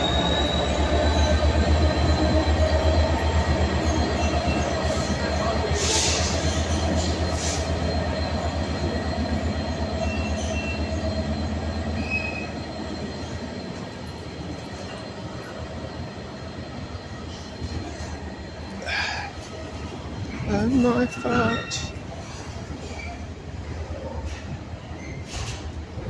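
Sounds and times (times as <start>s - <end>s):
faint high wheel squeal: 0.0s - 26.0s.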